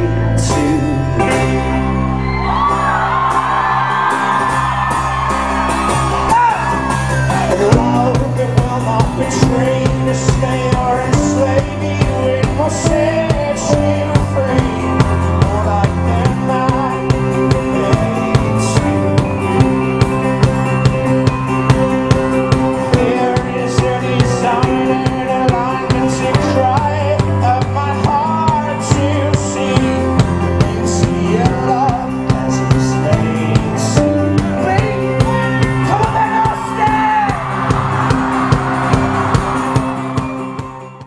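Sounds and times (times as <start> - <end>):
person singing: 0.0 - 2.6, 6.2 - 21.1, 22.5 - 38.2.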